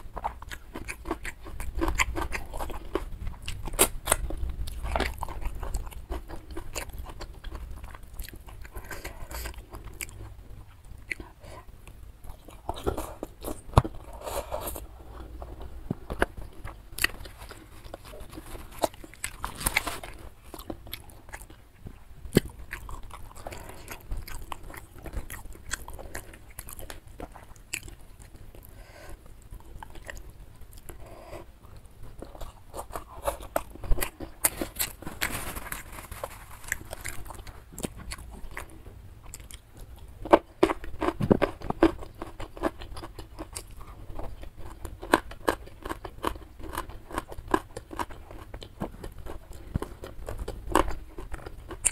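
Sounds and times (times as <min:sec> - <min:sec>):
crunchy chewing of food: 0:00.0 - 0:51.9.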